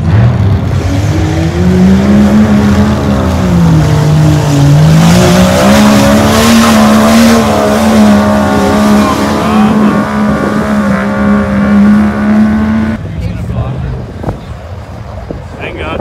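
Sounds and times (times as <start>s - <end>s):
engine revving high: 0.0s - 13.0s.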